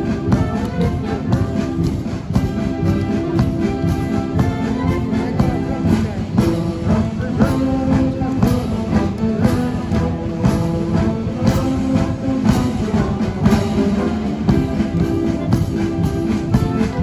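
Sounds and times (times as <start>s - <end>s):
brass chords: 0.0s - 17.0s
steady drum beat: 0.0s - 17.0s.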